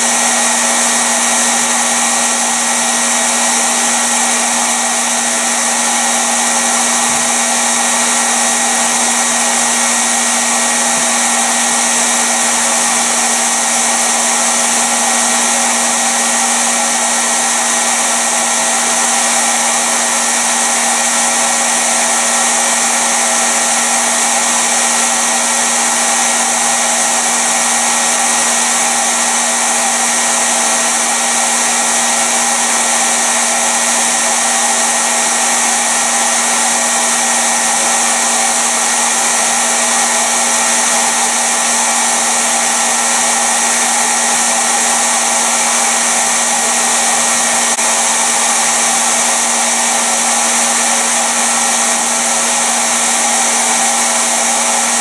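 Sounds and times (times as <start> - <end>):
hair dryer air rushing: 0.0 - 55.0.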